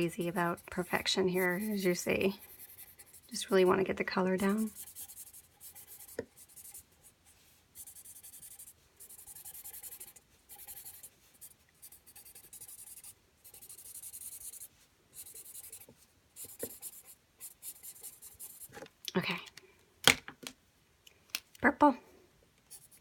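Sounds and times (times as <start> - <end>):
scratchy colouring strokes on paper: 0.0 - 18.8, 22.7 - 23.0.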